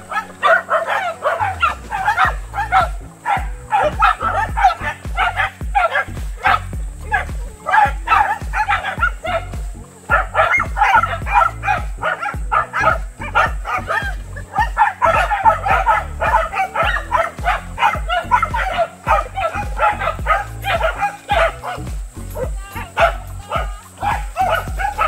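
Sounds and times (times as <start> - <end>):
dogs barking and yipping: 0.0 - 25.0
music with bass beat: 0.0 - 25.0.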